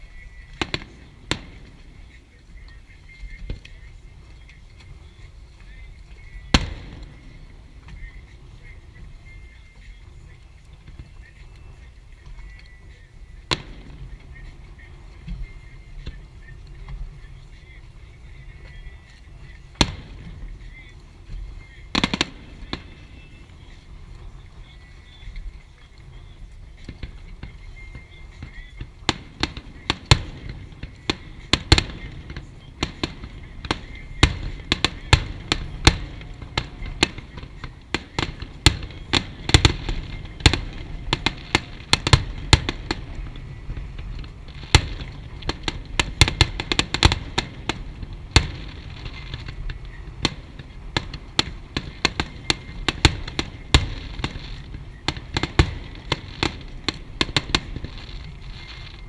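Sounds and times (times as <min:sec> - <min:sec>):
fireworks bangs and pops: 0:00.0 - 0:59.0
steady rumble: 0:00.0 - 0:59.0.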